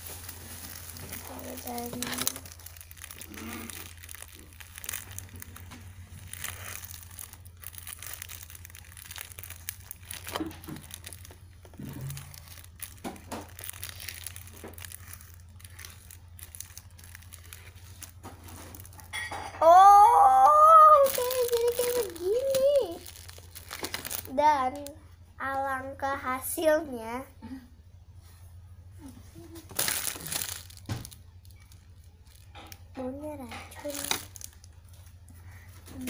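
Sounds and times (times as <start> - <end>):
plastic packaging crinkling: 0.0 - 25.0, 29.4 - 36.0.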